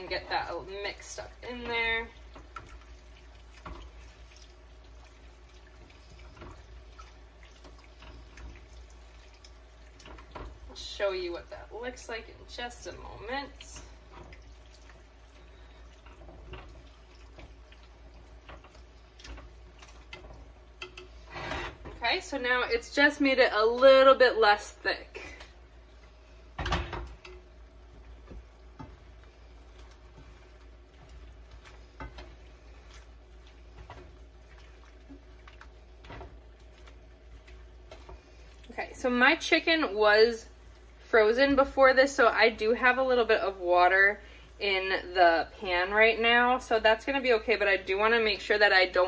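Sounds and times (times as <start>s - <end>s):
spoon stirring in a pan: 0.0s - 46.4s
faint steady hiss: 0.0s - 49.0s.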